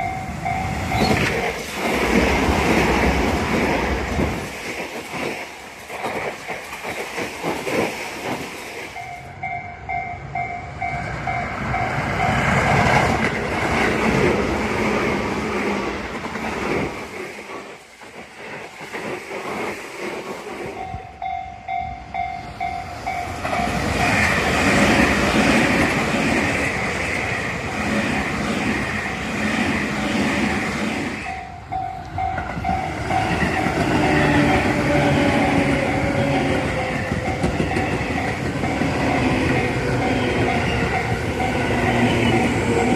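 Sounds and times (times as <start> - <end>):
electric trains passing: 0.0 - 42.9.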